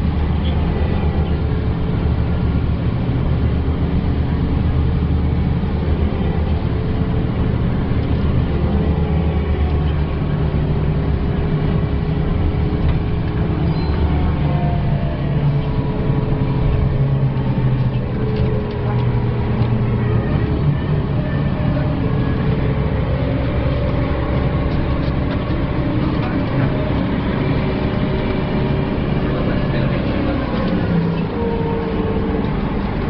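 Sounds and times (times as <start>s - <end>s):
bus diesel engine droning: 0.0s - 33.0s
road noise: 0.0s - 33.0s.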